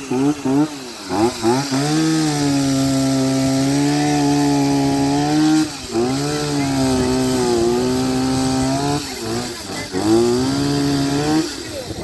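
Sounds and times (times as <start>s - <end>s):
chainsaw cutting through tree: 0.0s - 12.0s.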